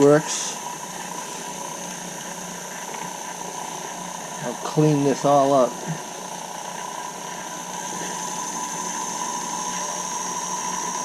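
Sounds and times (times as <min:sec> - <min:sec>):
lathe motor humming with whine: 0:00.0 - 0:11.0.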